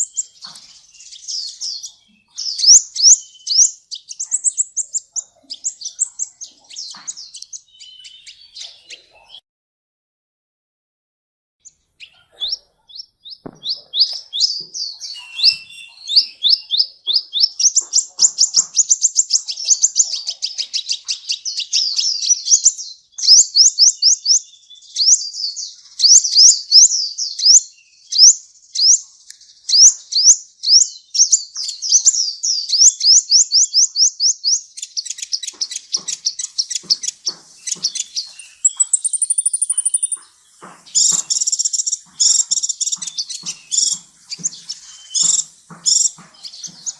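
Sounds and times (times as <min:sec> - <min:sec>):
sunbird singing: 0:00.0 - 0:09.4, 0:11.6 - 0:46.9.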